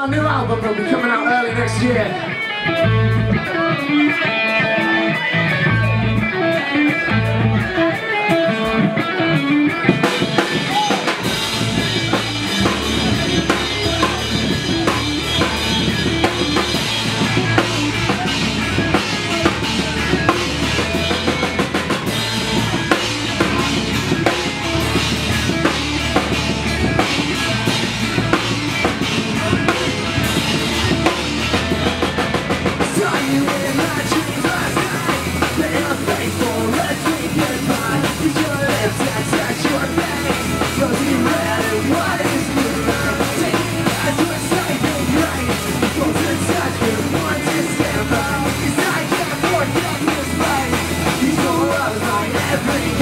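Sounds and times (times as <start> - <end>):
bass guitar: 0.0 - 53.0
electric guitars: 0.0 - 53.0
drum kit with cymbals: 3.5 - 53.0.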